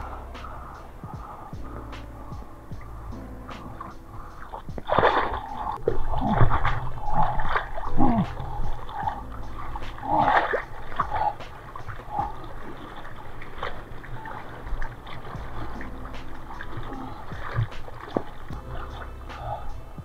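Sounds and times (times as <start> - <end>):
seawater splashing and gurgling: 0.0 - 20.0
paddling arm stroke splashes: 3.5 - 19.7.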